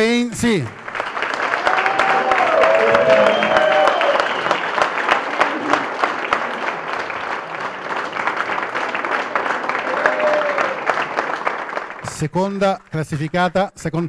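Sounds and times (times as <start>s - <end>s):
audience clapping: 0.8s - 13.5s.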